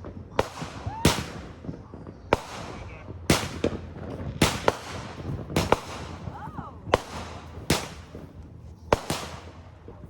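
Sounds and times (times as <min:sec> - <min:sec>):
firework cake bangs: 0:00.0 - 0:10.0.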